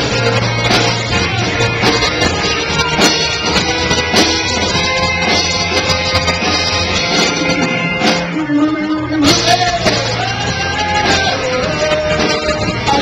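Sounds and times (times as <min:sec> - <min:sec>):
electric guitars: 0:00.0 - 0:13.0
steady drum beat: 0:00.0 - 0:13.0
sustained bass notes: 0:00.0 - 0:13.0.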